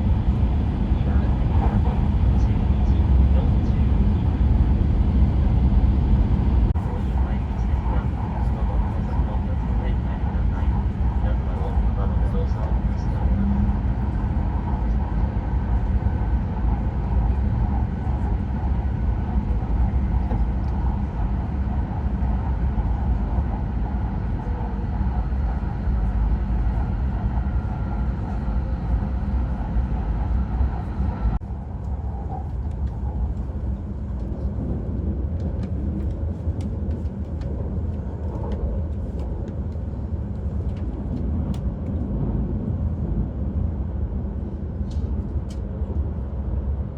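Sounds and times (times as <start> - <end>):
train rumble and hiss from inside: 0.0 - 46.9.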